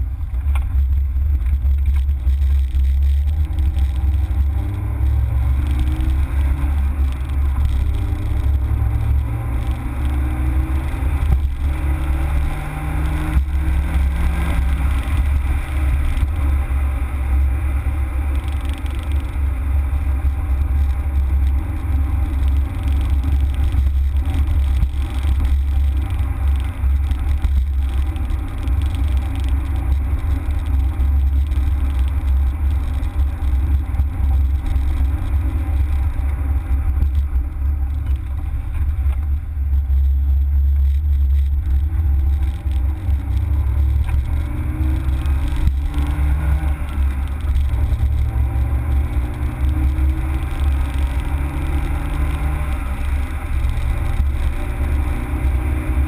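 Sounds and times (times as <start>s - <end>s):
car engine driven hard: 0.0s - 56.0s
low rumble inside car: 0.0s - 56.0s.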